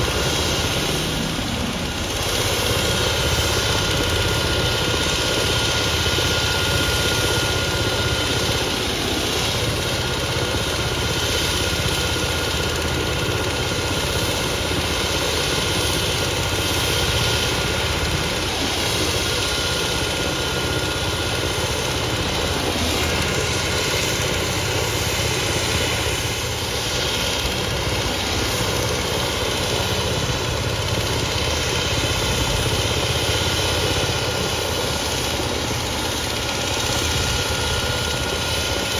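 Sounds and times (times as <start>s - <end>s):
helicopter turbine engine running: 0.0s - 38.9s.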